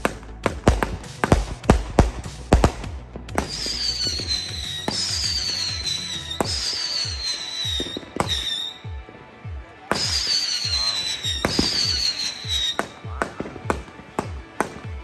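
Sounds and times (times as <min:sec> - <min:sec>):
firework bangs: 0:00.0 - 0:15.0
whistling fireworks: 0:00.0 - 0:15.0.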